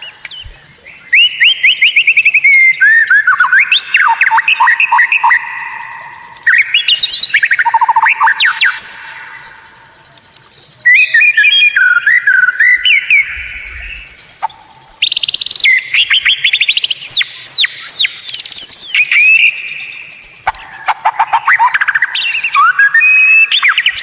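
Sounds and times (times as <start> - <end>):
bird whistles and trills: 0.0 - 24.0.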